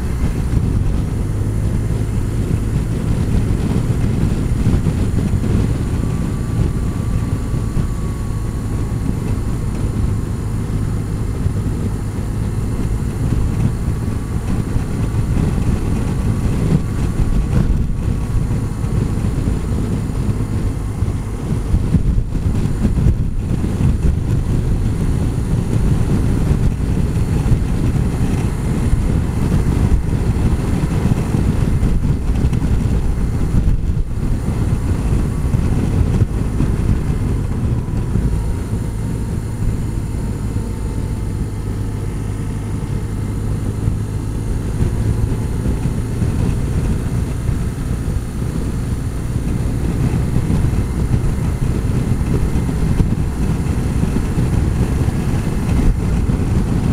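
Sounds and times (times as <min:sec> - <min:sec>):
motorcycle engine and road rumble: 0:00.0 - 0:56.9
wind noise on microphone: 0:00.0 - 0:56.9.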